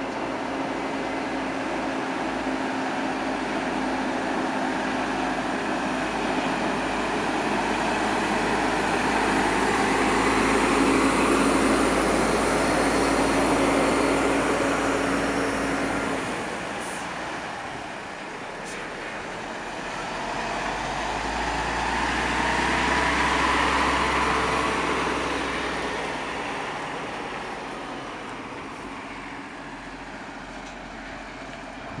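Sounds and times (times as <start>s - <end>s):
truck driving past: 0.0s - 32.0s.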